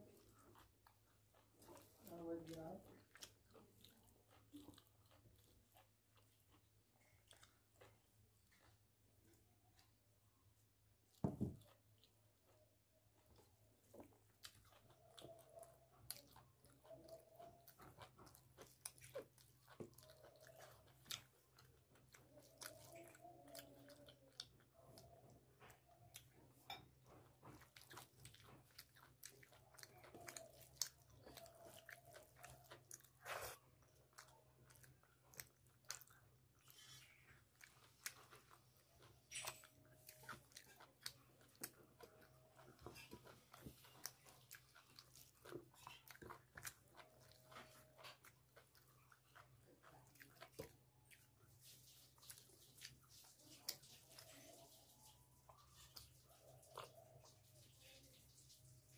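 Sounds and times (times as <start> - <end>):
wet chewing and mouth clicks: 0.0 - 58.9.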